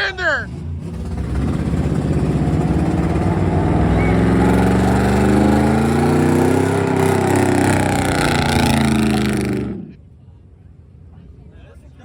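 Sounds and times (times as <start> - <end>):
truck engine at high revs: 0.0 - 10.0.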